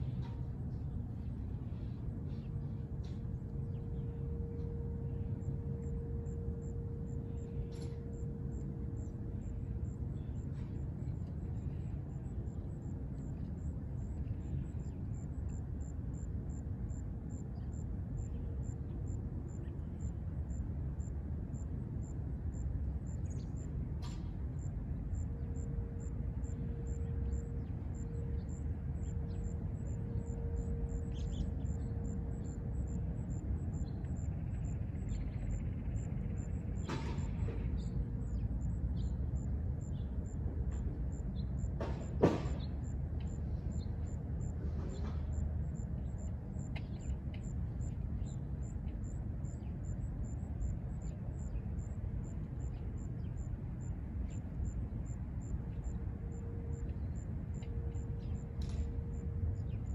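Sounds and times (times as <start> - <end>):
distant warning siren: 0.0 - 59.9.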